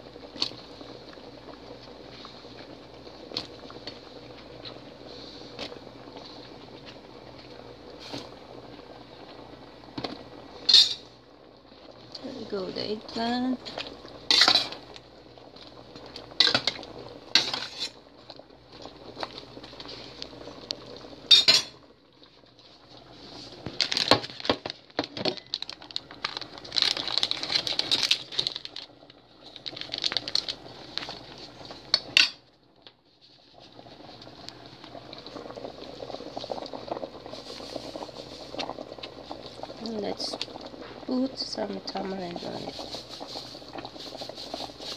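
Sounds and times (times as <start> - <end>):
water boiling in metal pot: 0.0 - 44.9.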